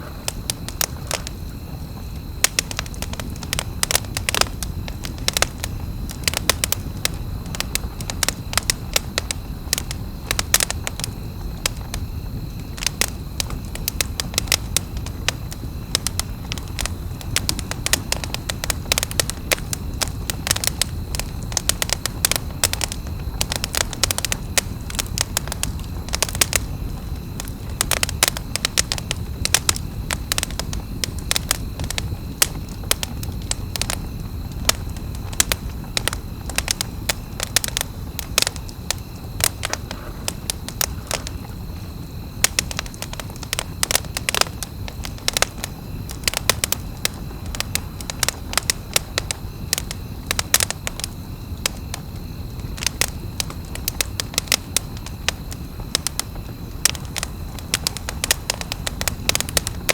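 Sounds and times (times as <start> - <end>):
campfire crackling: 0.0 - 59.9
fire pops and snaps: 0.0 - 59.9
low rumble of burning fire: 0.0 - 59.9.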